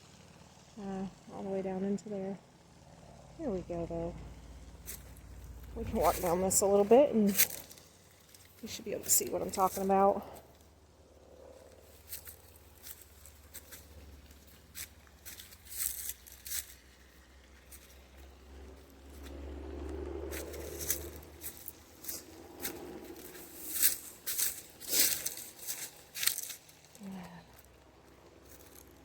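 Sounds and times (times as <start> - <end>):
low rumble: 3.1 - 7.8, 10.2 - 29.0
footsteps crunching on trail: 4.8 - 10.6, 11.4 - 29.0.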